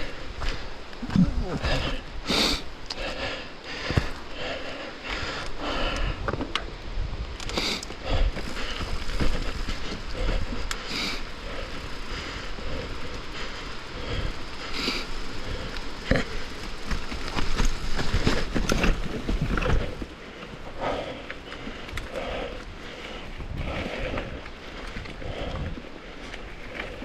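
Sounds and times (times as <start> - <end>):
bike tyres rolling and skidding: 0.0 - 27.0
bike clattering over rough ground: 2.7 - 27.0.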